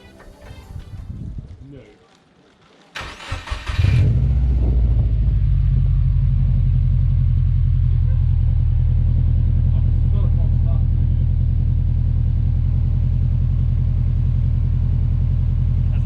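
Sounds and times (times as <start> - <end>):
car engine cranking and idling: 2.9 - 16.0.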